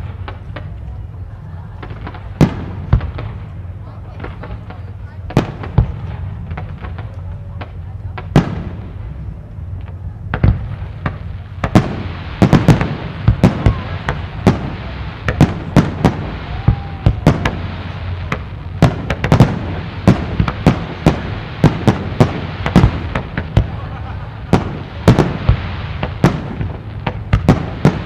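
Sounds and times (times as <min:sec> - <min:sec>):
fireworks bursting: 0:00.0 - 0:28.0.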